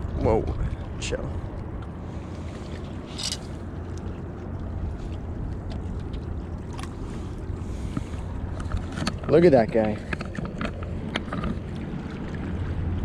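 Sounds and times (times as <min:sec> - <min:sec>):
low rumble by a river: 0:00.0 - 0:13.0.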